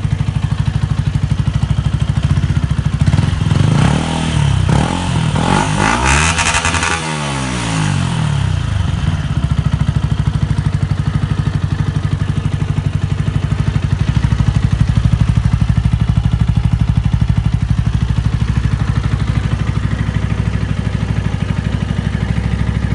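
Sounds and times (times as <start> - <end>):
motorcycle engine revving and idling: 0.0 - 22.9.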